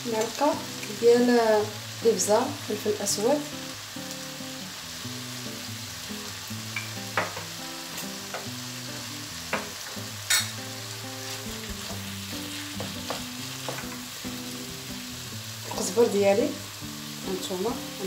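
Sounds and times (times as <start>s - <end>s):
meat sizzling in a frying pan: 0.0s - 18.0s.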